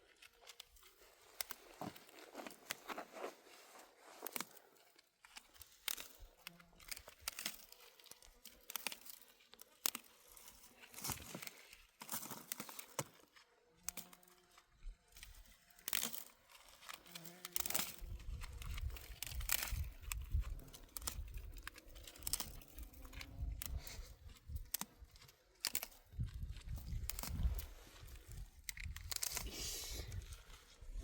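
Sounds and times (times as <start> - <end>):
dry herb stems rustling and snapping: 0.0 - 3.0, 4.2 - 30.8.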